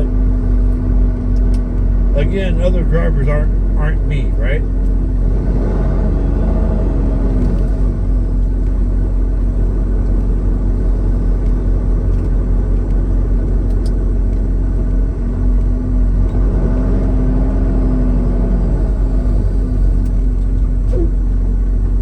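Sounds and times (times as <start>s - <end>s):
road noise rumble: 0.0s - 22.0s
truck engine drone: 0.0s - 22.0s.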